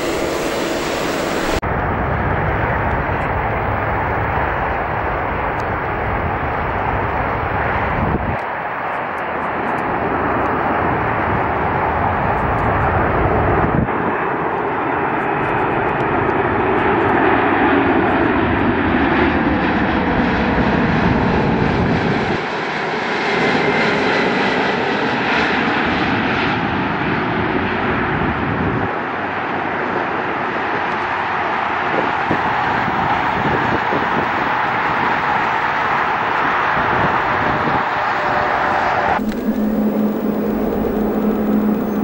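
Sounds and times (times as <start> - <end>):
jet engines of passing plane: 0.0 - 42.0.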